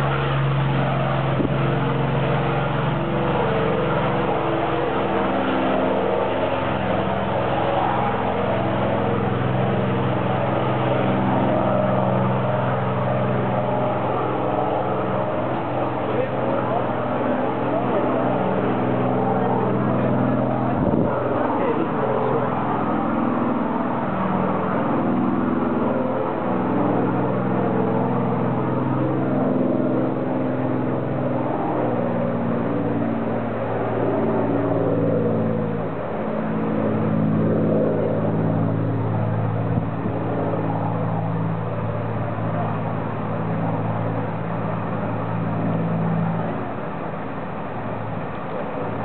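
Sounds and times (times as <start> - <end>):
propeller plane engine droning: 0.0 - 49.0.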